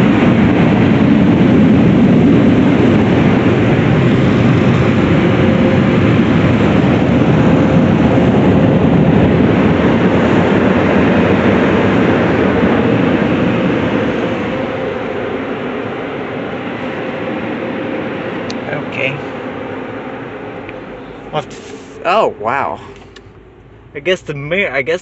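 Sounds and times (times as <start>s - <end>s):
air dryer blowers rushing: 0.0s - 24.6s.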